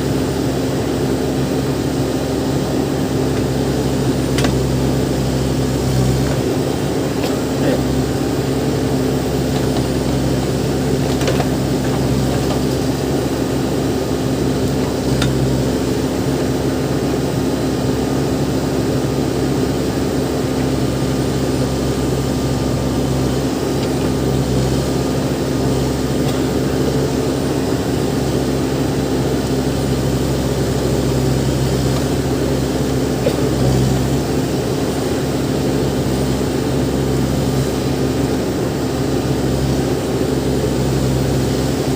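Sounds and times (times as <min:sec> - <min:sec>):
diesel engine running steadily: 0:00.0 - 0:41.9.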